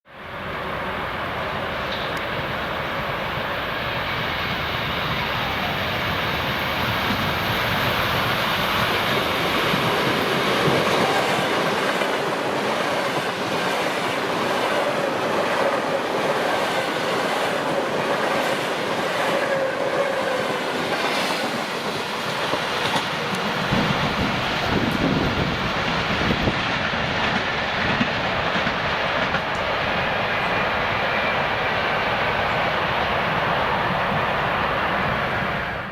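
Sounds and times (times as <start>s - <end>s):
electric train passing: 0.1s - 35.9s.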